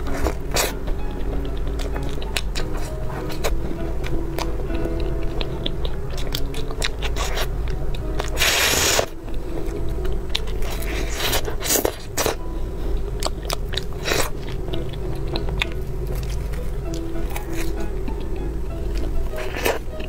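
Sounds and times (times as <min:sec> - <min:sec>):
crunchy food being chewed: 0:00.0 - 0:17.9, 0:18.8 - 0:20.0.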